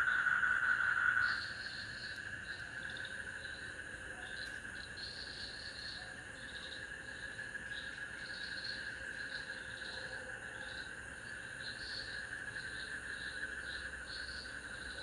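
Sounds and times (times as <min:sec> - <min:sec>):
insects chirping: 0:00.0 - 0:15.0
insects trilling: 0:00.0 - 0:15.0.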